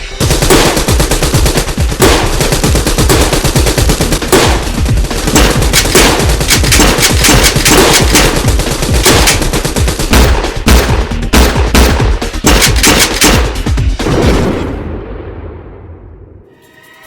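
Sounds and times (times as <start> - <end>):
rapid automatic gunfire effects: 0.2 - 14.4.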